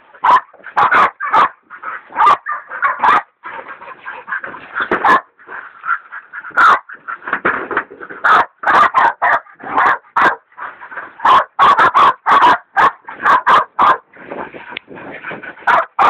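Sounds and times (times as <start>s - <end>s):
dogs barking: 0.2s - 7.2s, 8.2s - 14.1s, 15.6s - 16.0s.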